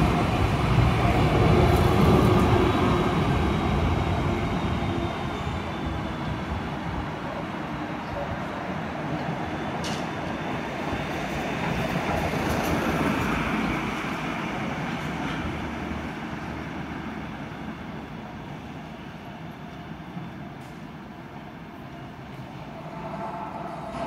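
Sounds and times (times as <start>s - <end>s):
tram passing: 0.0s - 24.0s.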